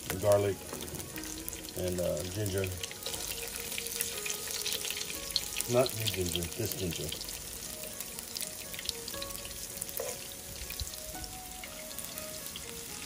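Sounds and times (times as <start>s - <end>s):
garlic and ginger sizzling in oil: 0.0s - 13.0s.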